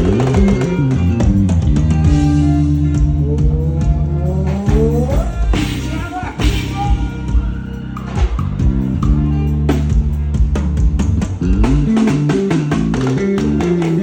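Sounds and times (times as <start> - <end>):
bass guitar line: 0.0 - 14.0
drum hits: 0.0 - 14.0.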